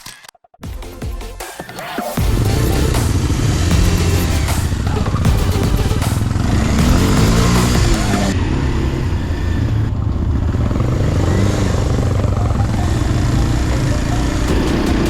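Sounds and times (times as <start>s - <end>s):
motorcycle engine revving: 2.2s - 15.0s.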